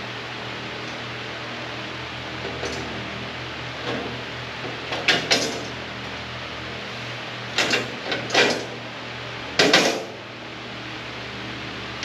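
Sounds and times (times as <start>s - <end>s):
shop fan hum: 0.0s - 12.0s.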